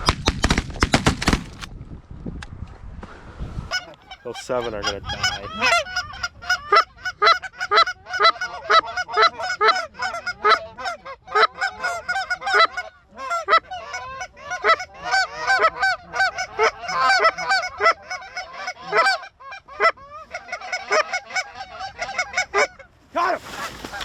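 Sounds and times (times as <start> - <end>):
geese honking: 3.7 - 24.0.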